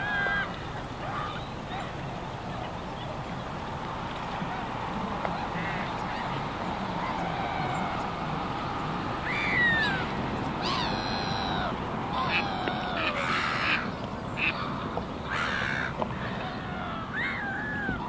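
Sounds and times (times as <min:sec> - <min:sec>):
birds giving harsh calls: 0:00.0 - 0:03.7, 0:04.4 - 0:18.0
distant traffic hum: 0:00.0 - 0:18.0.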